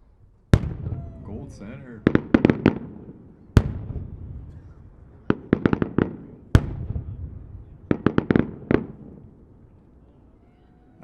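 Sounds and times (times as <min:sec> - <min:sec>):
firework bangs: 0:00.5 - 0:09.8
loud firework report: 0:00.5 - 0:11.0.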